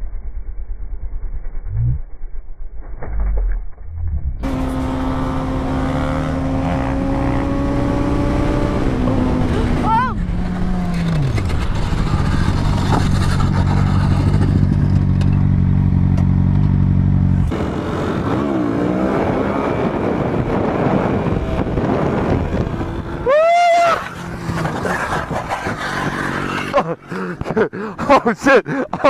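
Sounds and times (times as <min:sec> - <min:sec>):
road noise: 0:03.2 - 0:29.0.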